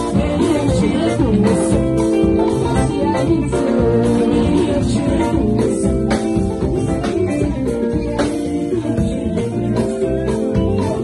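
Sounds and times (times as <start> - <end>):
bass and drums: 0.0 - 11.0
electric guitar: 0.0 - 11.0.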